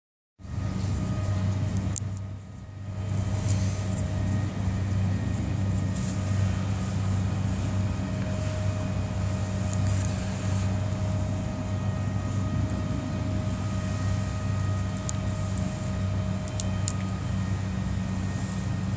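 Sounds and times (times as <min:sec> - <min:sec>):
low mechanical hum: 0:00.4 - 0:18.9.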